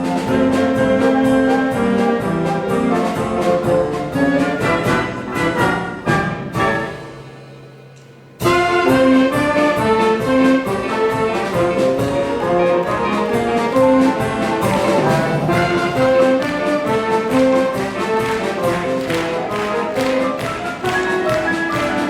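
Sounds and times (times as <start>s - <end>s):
brass band playing: 0.0s - 7.8s, 8.4s - 22.0s.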